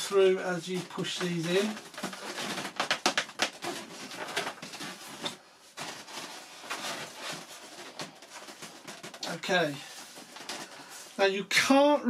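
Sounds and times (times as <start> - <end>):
foam scraping and rubbing: 0.0 - 11.2.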